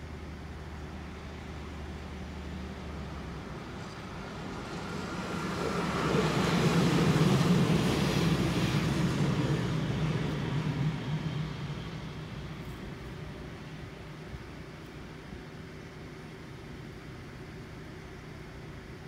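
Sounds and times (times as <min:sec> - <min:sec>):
rail vehicle engine and wheels passing: 0:00.0 - 0:19.0.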